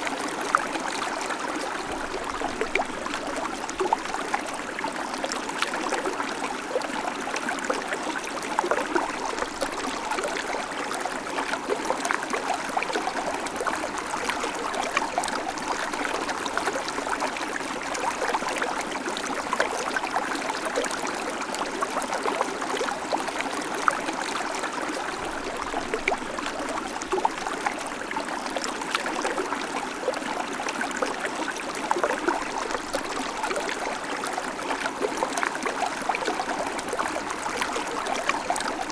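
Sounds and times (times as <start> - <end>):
creek babbling over stones: 0.0 - 38.9.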